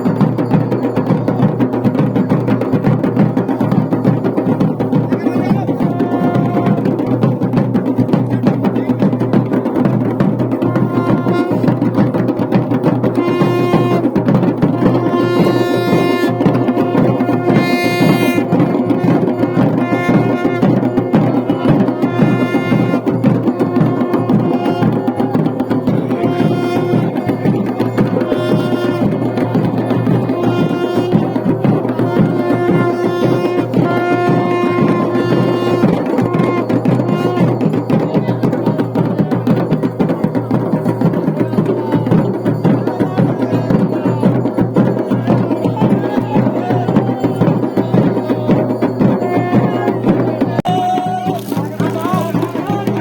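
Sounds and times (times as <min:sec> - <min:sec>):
fast steady drumming: 0:00.0 - 0:53.0
pitched melody: 0:00.0 - 0:53.0.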